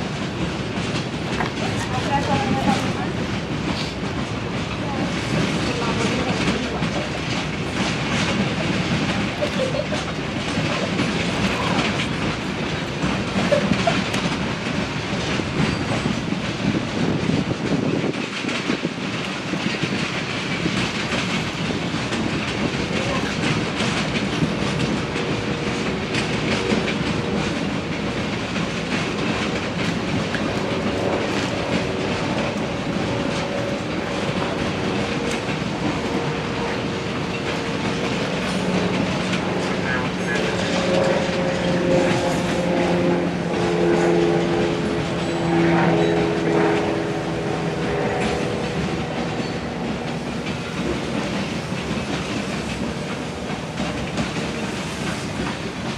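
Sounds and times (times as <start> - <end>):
train wheels clicking over rail joints: 0.0 - 55.9.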